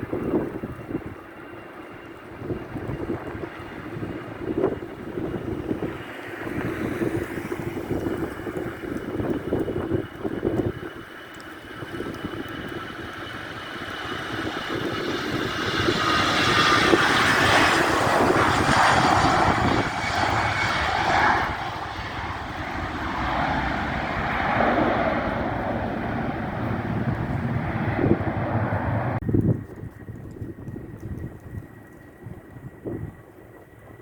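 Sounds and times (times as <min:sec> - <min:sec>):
jet airliner engines passing: 0:00.0 - 0:34.0.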